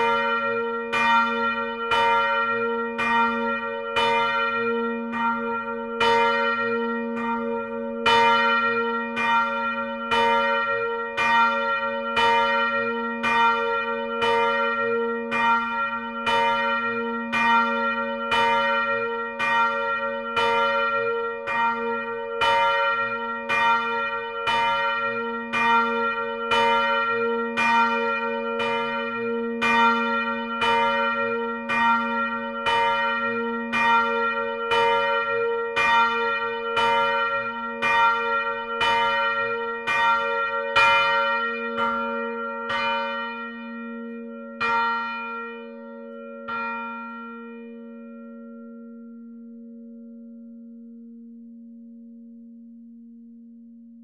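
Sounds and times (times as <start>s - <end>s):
church bells ringing: 0.0s - 52.4s.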